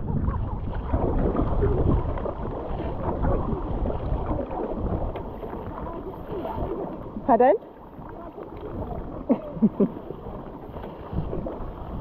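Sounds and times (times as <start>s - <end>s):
paddle strokes: 0.0s - 12.0s
water sloshing: 0.0s - 12.0s
wind buffeting microphone: 0.0s - 12.0s.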